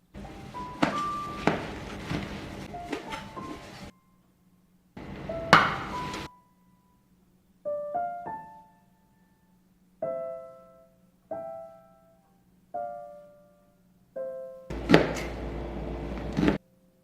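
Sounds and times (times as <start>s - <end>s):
piano notes and chords: 0.0s - 4.2s, 5.0s - 17.0s.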